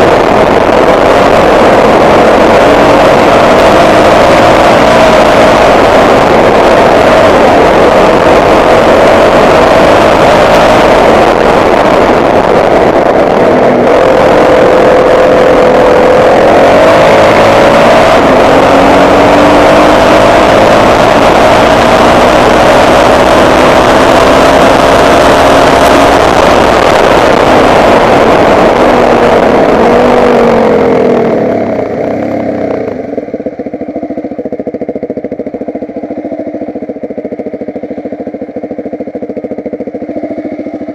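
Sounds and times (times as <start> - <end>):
loud rushing noise: 0.0 - 34.6
motocross bike engine: 0.0 - 40.9.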